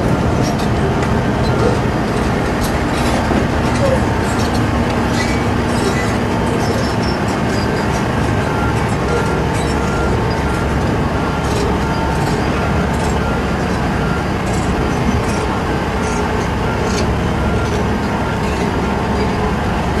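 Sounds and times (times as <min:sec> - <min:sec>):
diesel engines running under load: 0:00.0 - 0:20.0
metallic clanks and squeaks: 0:00.0 - 0:20.0.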